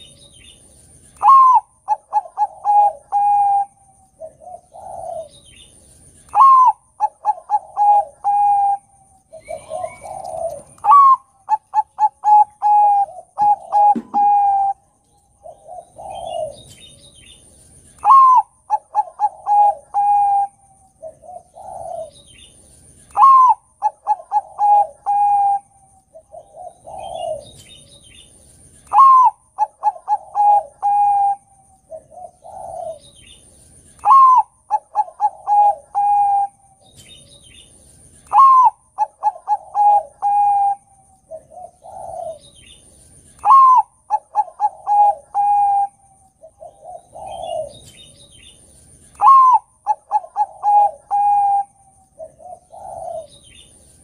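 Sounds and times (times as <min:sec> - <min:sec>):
dove cooing: 0:01.2 - 0:17.3, 0:18.0 - 0:54.0.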